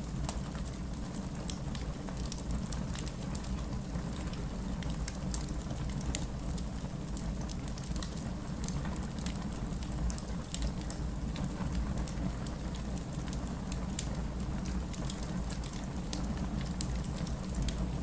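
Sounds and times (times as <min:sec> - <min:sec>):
fire crackling and snapping: 0:00.1 - 0:18.0.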